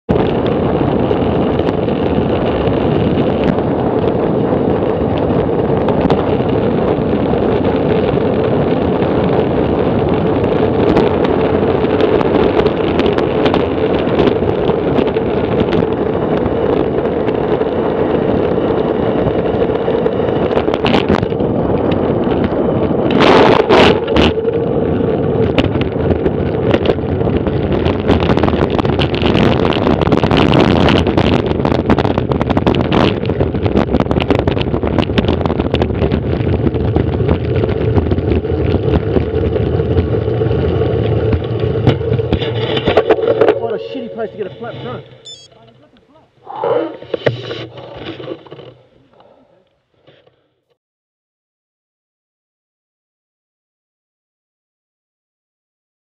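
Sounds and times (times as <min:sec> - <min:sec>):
wind rushing over microphone: 0:00.1 - 0:50.0
bicycle tyre noise: 0:00.1 - 0:50.6.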